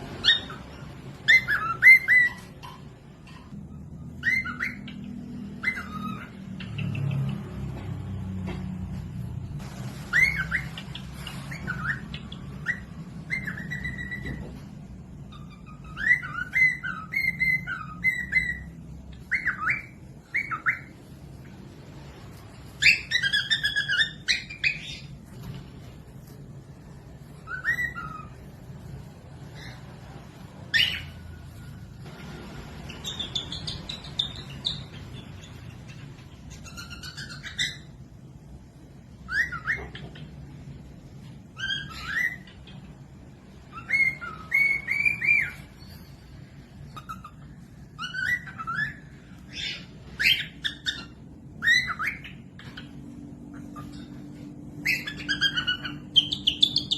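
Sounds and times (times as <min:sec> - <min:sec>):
cockatiels chirping and whistling: 0:00.0 - 0:56.9.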